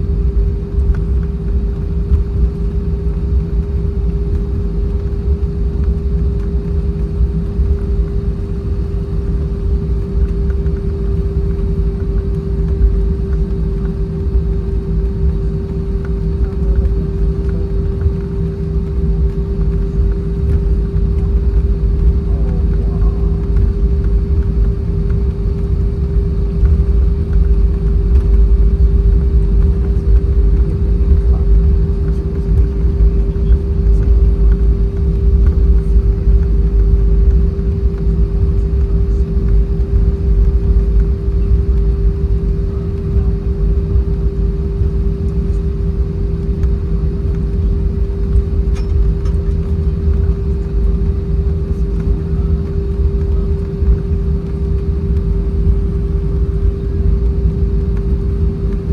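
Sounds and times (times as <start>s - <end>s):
aircraft engines idling: 0.0s - 58.9s
constant hum: 0.0s - 58.9s.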